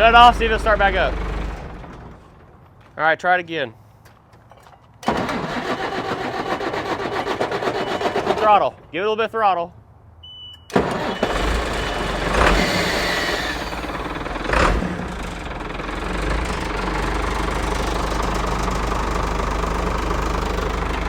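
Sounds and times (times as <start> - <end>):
truck engine starting and idling: 0.0 - 2.9, 5.0 - 9.0, 10.2 - 21.0.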